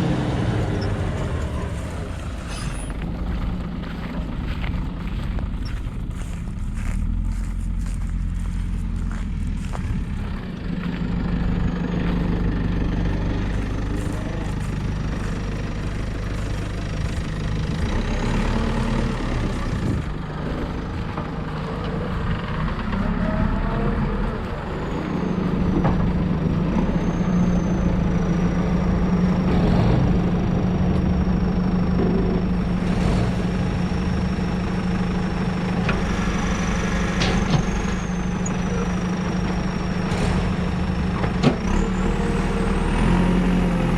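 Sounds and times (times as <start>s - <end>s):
heavy engine droning: 0.0s - 43.9s.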